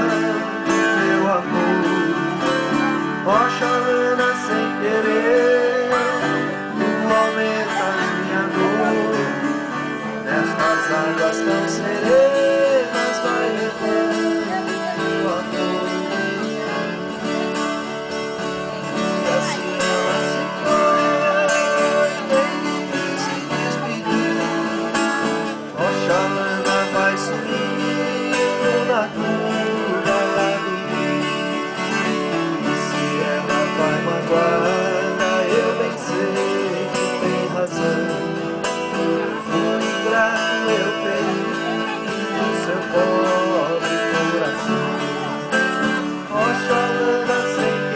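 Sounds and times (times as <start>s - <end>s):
strummed acoustic guitars: 0.0s - 47.9s.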